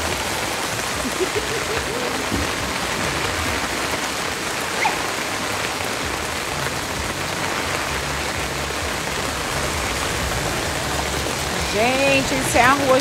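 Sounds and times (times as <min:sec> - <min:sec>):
heavy rain pouring on street: 0:00.0 - 0:13.0.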